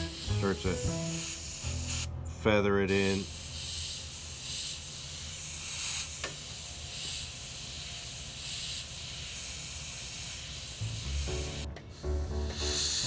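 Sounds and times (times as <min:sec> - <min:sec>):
airbrush spraying hiss: 0:00.0 - 0:02.1, 0:02.9 - 0:13.0.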